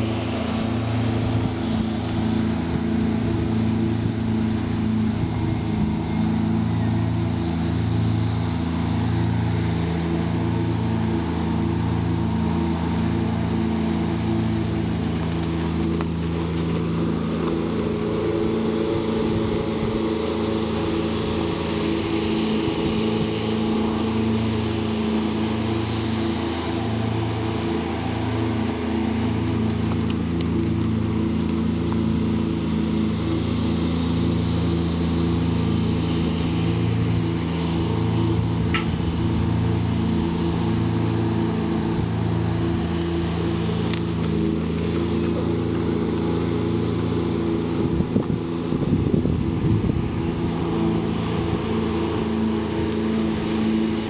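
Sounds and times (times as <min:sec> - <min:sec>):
engine humming with slow throb: 0:00.0 - 0:54.0.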